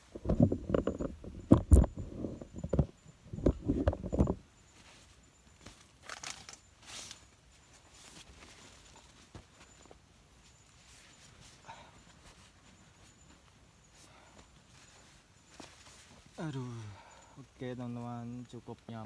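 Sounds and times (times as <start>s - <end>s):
person shifting and rustling: 0.0s - 17.6s.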